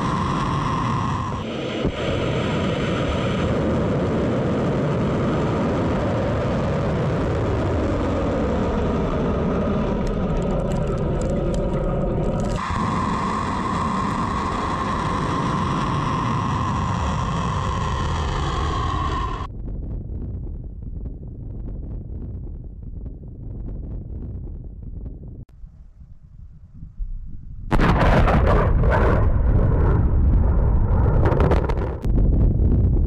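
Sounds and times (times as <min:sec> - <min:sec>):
rocket motor rumble: 0:00.0 - 0:33.0.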